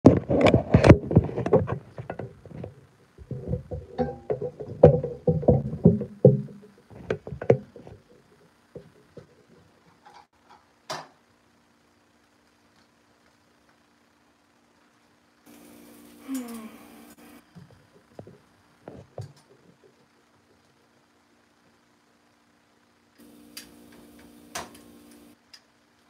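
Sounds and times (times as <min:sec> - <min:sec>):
faint steady hum: 0:00.1 - 0:26.0.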